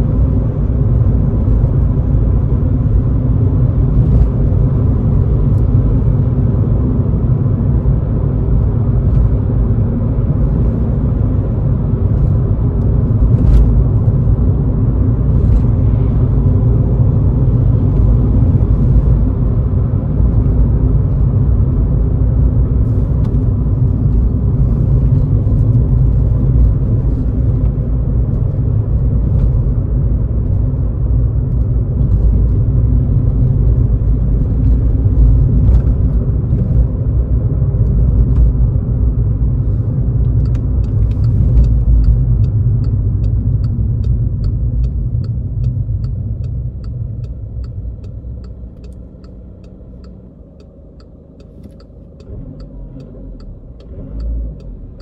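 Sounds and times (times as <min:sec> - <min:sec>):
car engine and road noise drone: 0:00.0 - 0:55.0.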